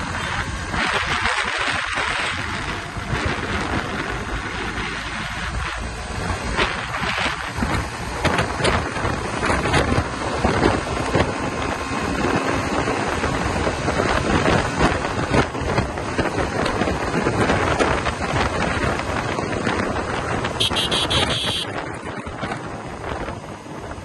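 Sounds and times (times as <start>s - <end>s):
motorcycle running: 0.0s - 24.0s
road noise: 0.0s - 24.0s
wind buffeting microphone: 0.0s - 24.0s.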